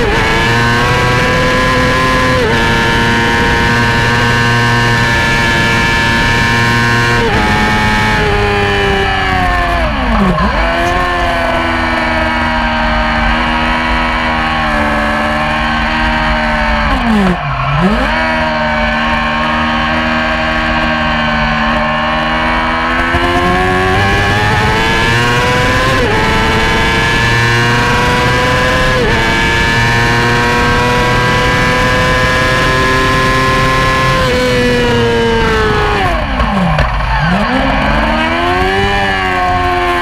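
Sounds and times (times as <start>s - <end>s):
motorcycle engine revving high: 0.0s - 40.0s.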